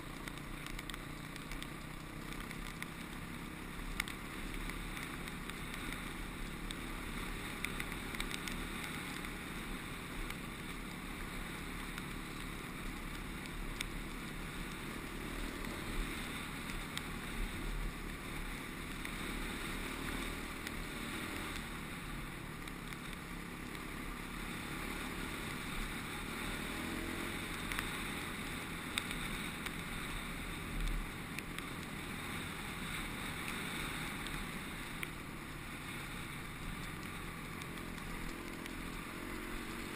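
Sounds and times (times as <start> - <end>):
dirt bike engine running: 0.0 - 39.9
gravel ticks: 0.0 - 39.9.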